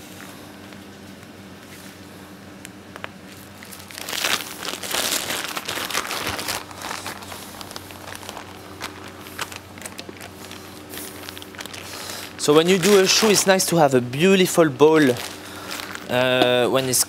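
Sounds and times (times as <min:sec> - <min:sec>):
plastic piping bag crinkling: 0:03.0 - 0:17.0.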